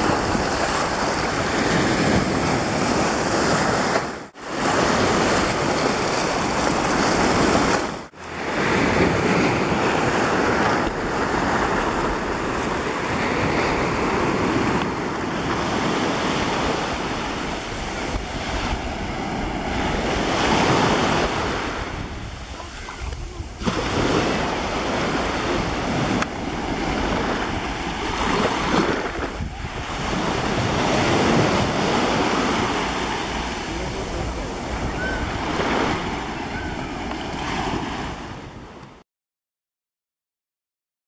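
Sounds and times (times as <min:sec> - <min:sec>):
sea waves breaking: 0:00.0 - 0:39.0
wind on microphone: 0:00.0 - 0:39.0.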